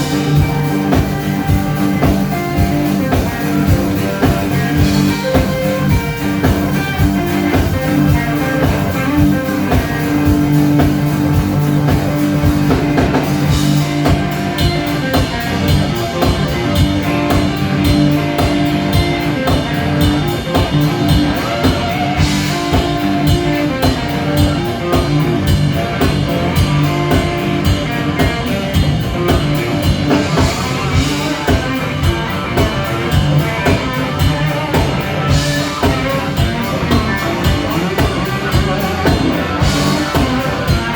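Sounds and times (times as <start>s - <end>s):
instrumental rock music: 0.0s - 40.9s.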